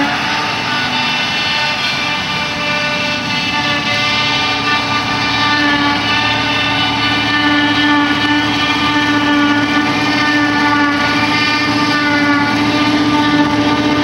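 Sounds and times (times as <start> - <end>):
forage harvester high whine: 0.0 - 14.0
tractor engines droning: 0.0 - 14.0.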